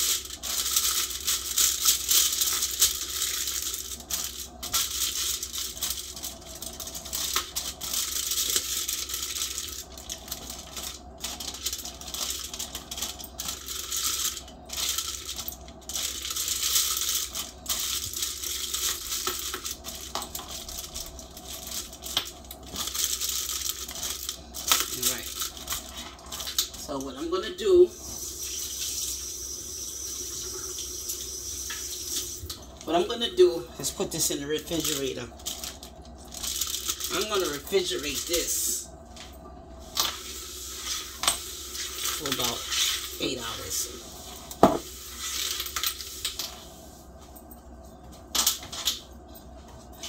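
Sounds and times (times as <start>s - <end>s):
aluminium foil crinkling: 0.0s - 27.4s, 32.1s - 39.2s, 39.8s - 46.6s.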